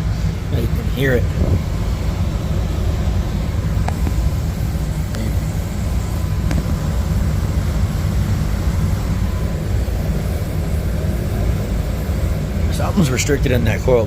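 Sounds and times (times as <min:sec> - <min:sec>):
air conditioner rumbling: 0:00.0 - 0:14.0.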